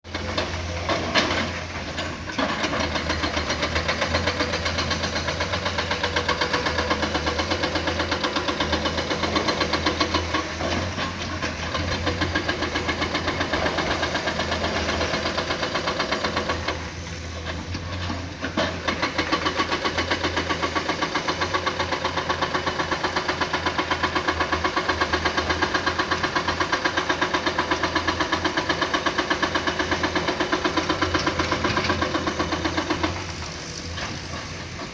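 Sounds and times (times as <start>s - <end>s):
excavator diesel engine throbbing: 0.1s - 34.9s.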